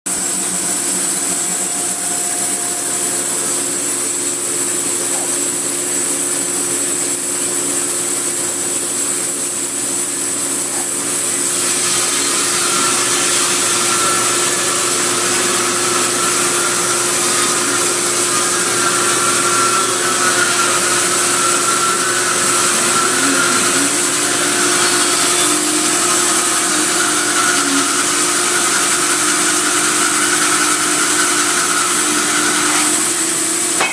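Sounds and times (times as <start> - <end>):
sawmill machine hum: 0.1 - 33.9.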